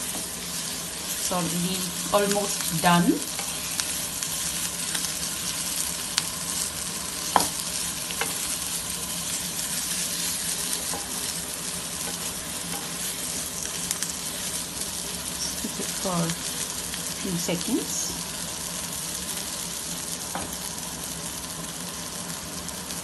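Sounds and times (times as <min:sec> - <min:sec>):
potatoes sizzling in a frying pan: 0:00.0 - 0:23.0.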